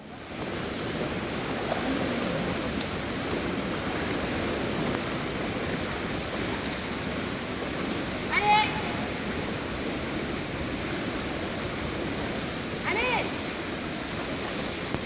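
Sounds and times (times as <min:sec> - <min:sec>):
water splashing in swimming pool: 0:00.0 - 0:15.0.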